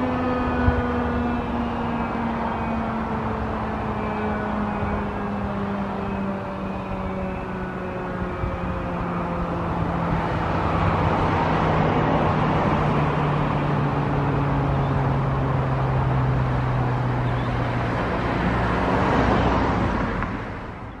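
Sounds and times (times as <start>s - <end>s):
siren winding down: 0.0s - 19.5s.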